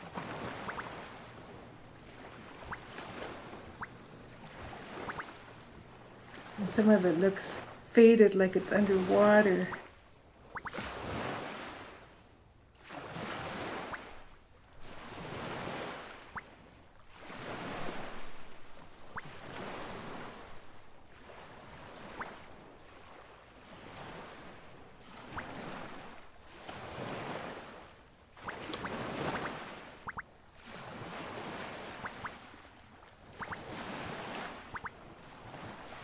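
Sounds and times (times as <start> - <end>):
ocean waves washing in: 0.0 - 36.0.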